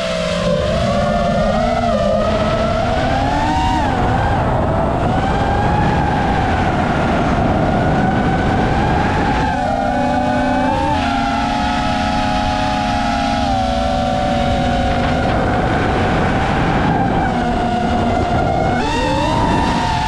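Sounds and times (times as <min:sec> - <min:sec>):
drone motors whining: 0:00.0 - 0:20.0
steady rushing noise: 0:00.0 - 0:20.0.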